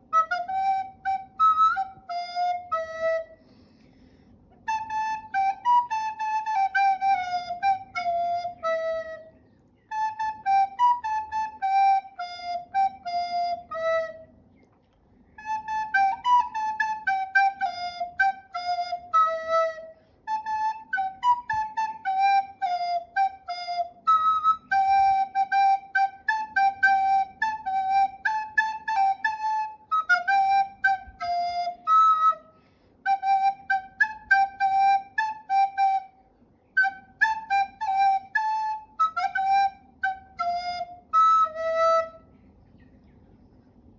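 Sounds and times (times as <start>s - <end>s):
solo recorder melody: 0.0s - 3.7s, 4.6s - 14.4s, 15.3s - 42.4s.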